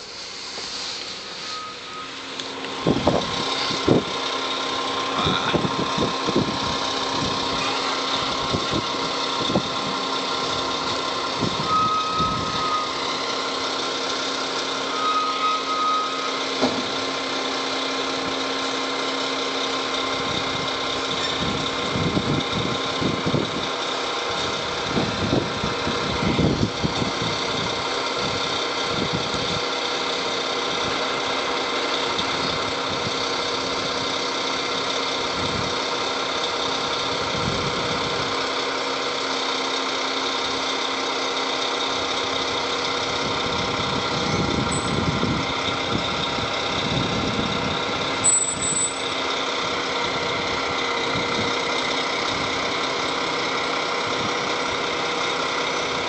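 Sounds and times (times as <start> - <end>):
diesel engine droning: 0.0 - 56.0
hydraulic hoist whining: 0.0 - 56.0.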